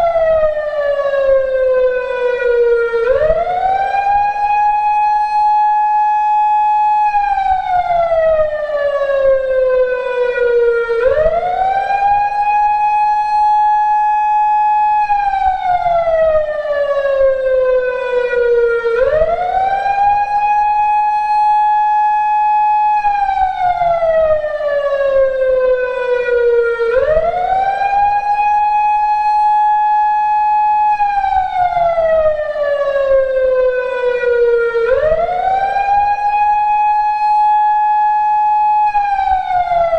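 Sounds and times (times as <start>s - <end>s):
electronic siren wailing: 0.0s - 39.9s.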